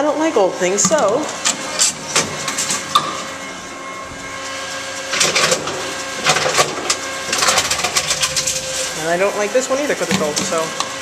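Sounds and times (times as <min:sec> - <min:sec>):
vending machine motor whirring: 0:00.0 - 0:11.0.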